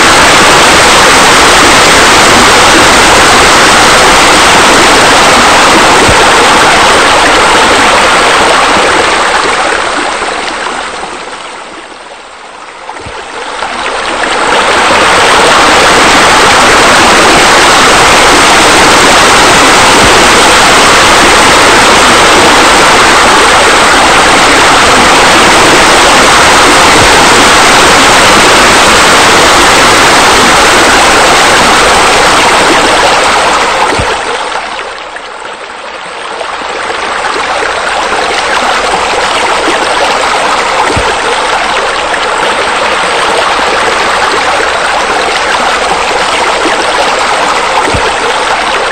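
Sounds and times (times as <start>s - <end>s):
water splashing into a pool: 0.0s - 12.0s, 12.8s - 48.9s.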